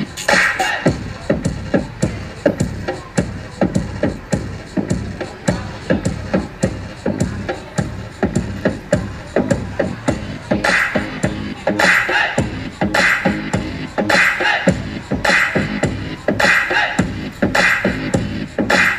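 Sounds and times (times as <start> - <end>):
hip-hop beat: 0.0 - 18.9.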